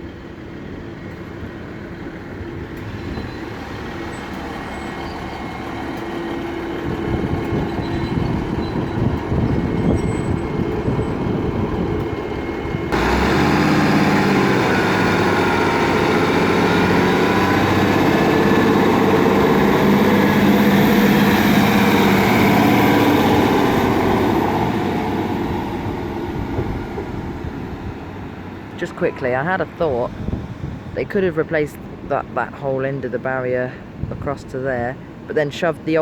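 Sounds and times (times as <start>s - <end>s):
diesel train passing: 0.0s - 36.0s.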